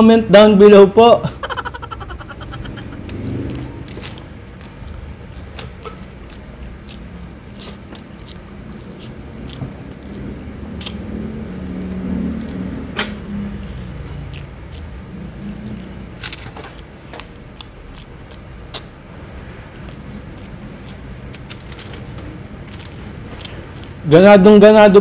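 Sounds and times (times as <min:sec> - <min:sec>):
person chewing with wet smacks: 0:01.9 - 0:12.7, 0:14.0 - 0:24.0.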